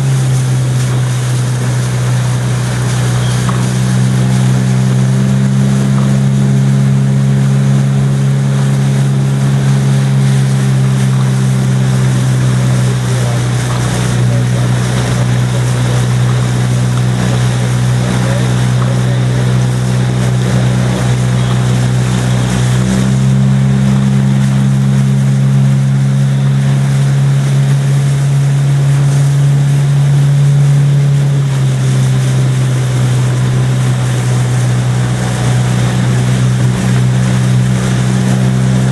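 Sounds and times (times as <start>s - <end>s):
motorboat engine running: 0.0s - 38.9s
water hissing: 0.0s - 38.9s
wind: 0.0s - 38.9s.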